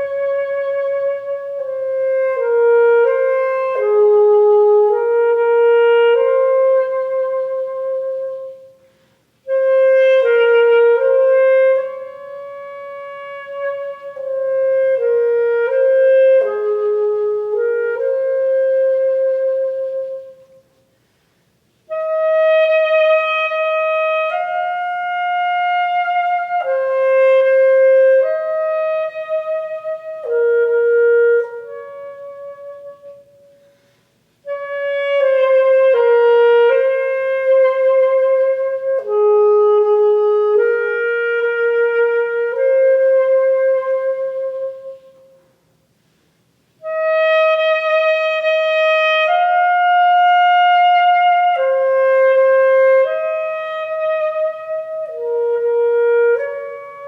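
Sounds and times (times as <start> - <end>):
wind instrument slow melody: 0.0 - 21.0, 21.6 - 45.9, 46.5 - 57.0.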